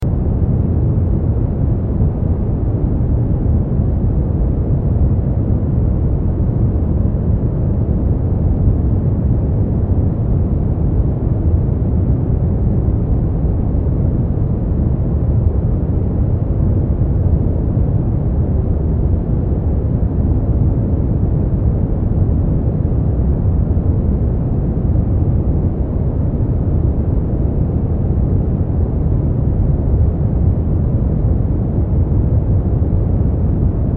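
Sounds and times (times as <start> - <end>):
brown noise: 0.0 - 33.9.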